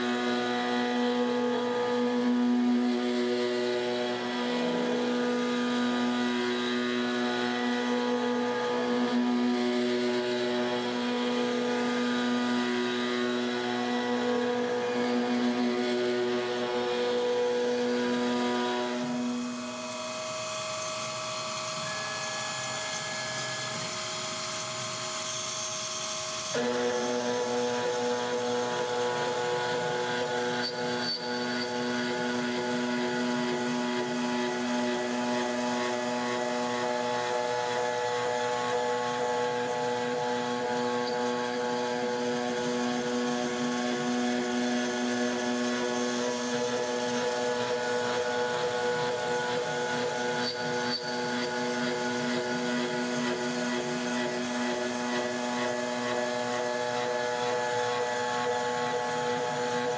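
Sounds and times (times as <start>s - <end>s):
milling machine cutting hum: 0.0s - 59.9s.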